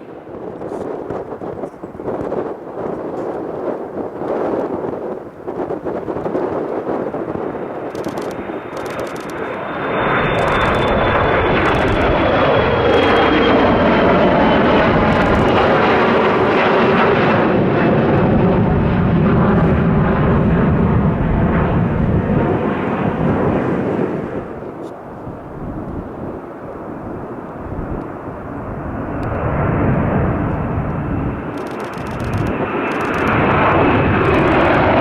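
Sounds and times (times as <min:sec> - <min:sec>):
jet engine rumble: 0:00.0 - 0:35.0
jet engine whine: 0:00.0 - 0:35.0.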